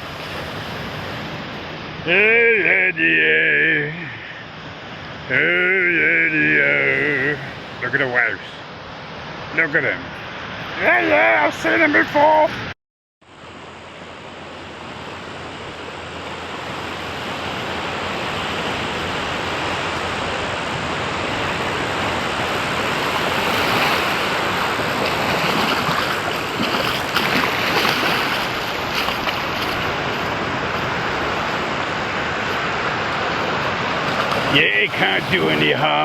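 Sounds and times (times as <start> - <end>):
ocean surf breaking on beach: 0.0 - 12.7, 13.3 - 36.0.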